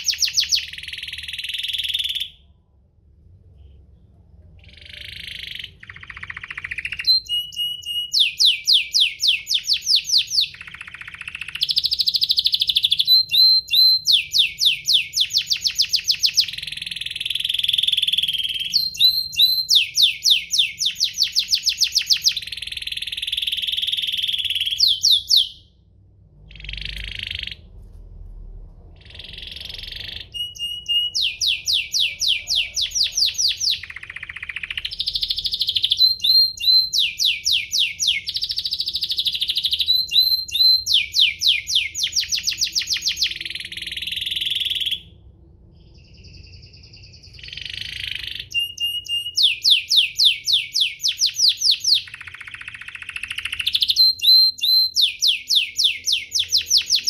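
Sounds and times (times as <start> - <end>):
canary singing trills: 0.0 - 2.6, 4.6 - 25.8, 26.5 - 27.8, 28.9 - 45.2, 45.8 - 57.0.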